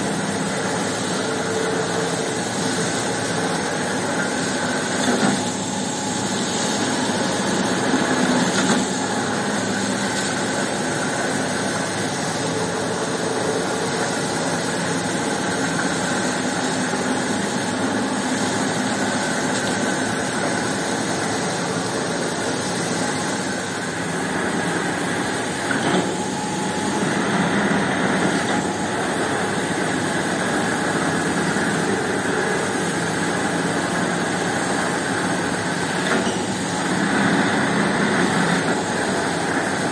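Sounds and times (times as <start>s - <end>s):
carpet scrubbing machine running: 0.0s - 39.9s
water spraying from hose: 0.0s - 39.9s.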